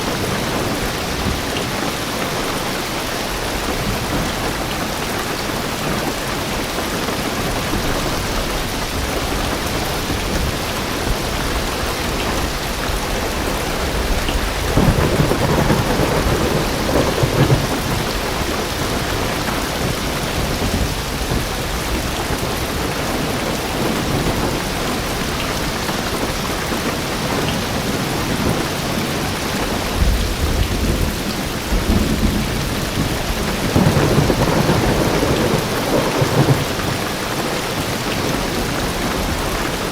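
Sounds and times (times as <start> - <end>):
distant thunder rumbling: 0.0 - 39.8
heavy rain on car roof: 0.0 - 39.9.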